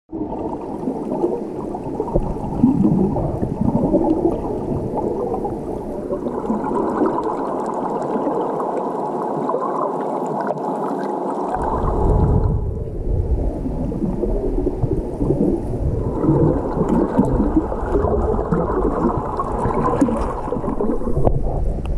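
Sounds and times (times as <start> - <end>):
underwater rumble and gurgling: 0.1 - 21.9.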